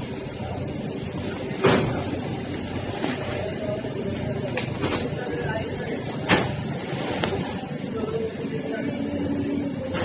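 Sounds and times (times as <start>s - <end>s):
machinery humming: 0.0s - 10.0s.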